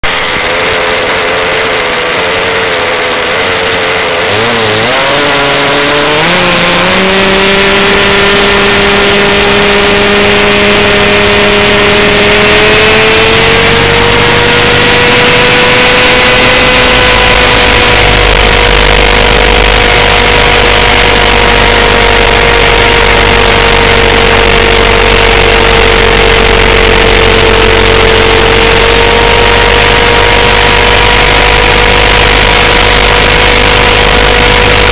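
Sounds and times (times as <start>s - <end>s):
rc helicopter engine whine: 0.0s - 34.9s.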